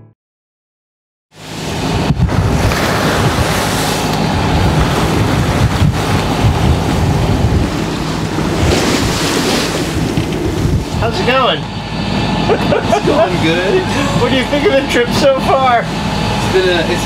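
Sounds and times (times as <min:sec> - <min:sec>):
waves breaking along hull: 0:01.3 - 0:17.0
wind buffeting microphone: 0:01.4 - 0:16.6.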